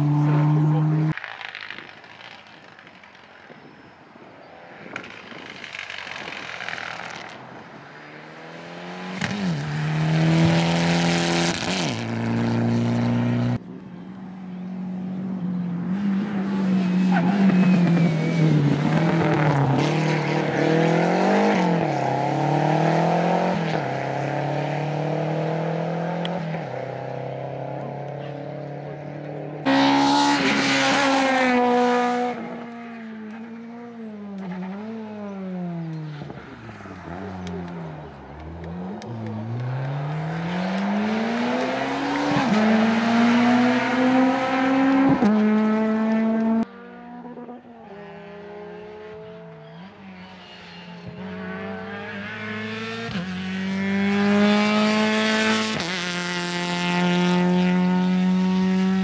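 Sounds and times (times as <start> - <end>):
rally car engines revving: 0.0 - 1.6, 4.6 - 59.0.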